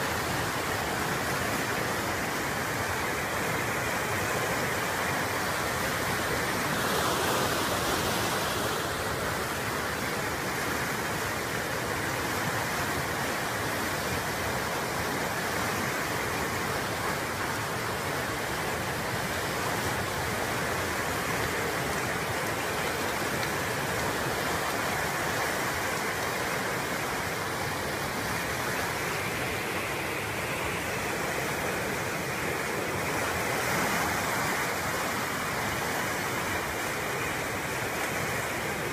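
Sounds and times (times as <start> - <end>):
flood water rushing: 0.0 - 38.9.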